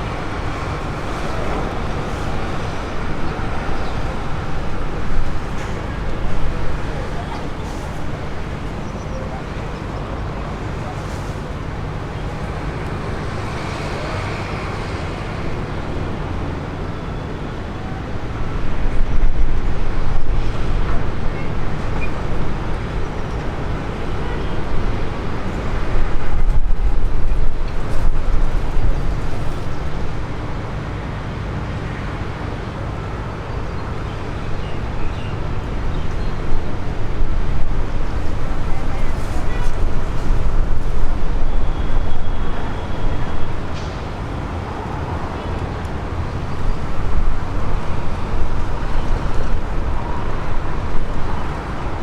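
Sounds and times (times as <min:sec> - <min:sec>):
aircraft rumble: 0:00.0 - 0:52.0.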